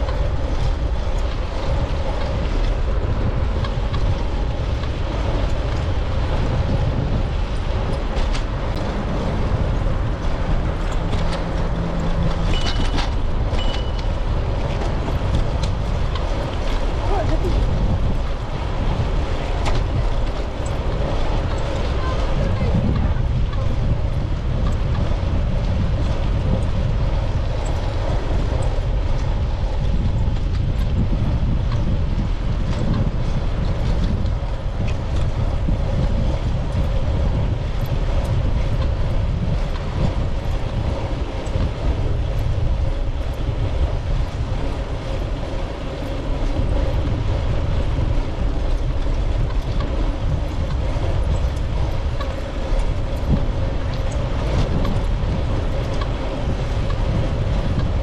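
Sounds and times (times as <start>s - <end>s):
tyres rolling on road: 0.0s - 58.0s
wind buffeting microphone: 0.0s - 58.0s.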